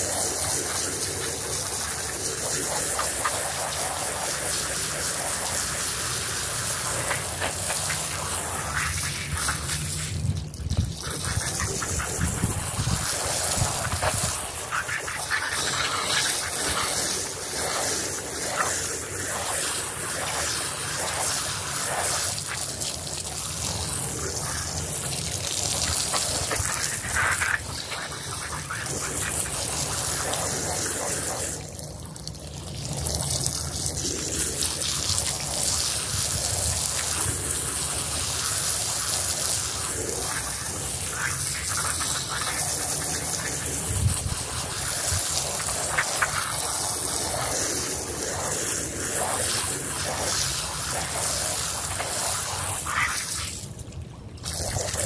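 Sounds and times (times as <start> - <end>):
water jet spraying on wet rug: 0.0 - 55.0.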